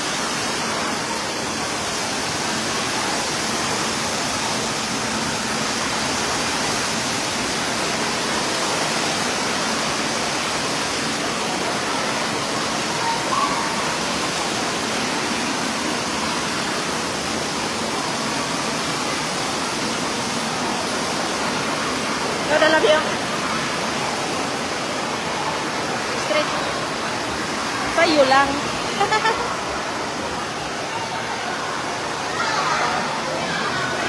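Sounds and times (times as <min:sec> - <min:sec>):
churning water: 0:00.0 - 0:34.0.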